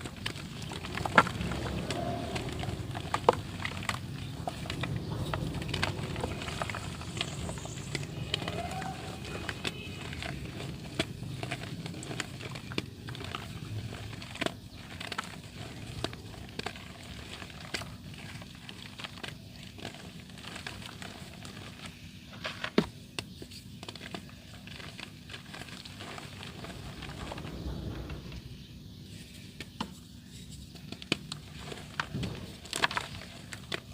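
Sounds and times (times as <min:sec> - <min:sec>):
wet dirt crackling: 0:00.0 - 0:33.9.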